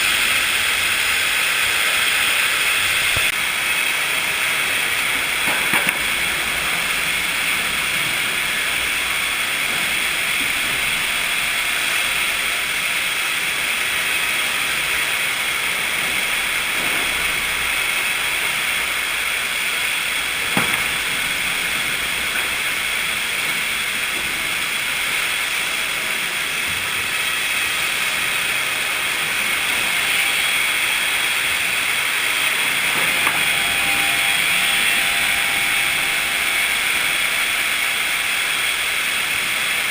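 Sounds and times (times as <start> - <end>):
sawmill machinery hissing: 0.0 - 39.9.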